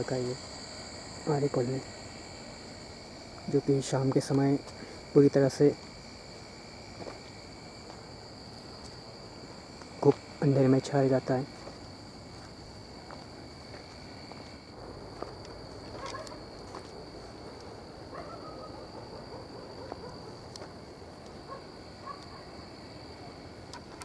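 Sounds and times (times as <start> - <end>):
crickets droning: 0.0 - 24.0
lower insect drone: 0.0 - 24.0.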